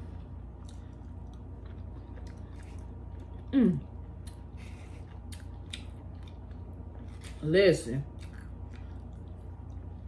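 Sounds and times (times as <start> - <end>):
person chewing: 0.0 - 7.4, 8.1 - 10.0
low steady hum: 0.0 - 10.0.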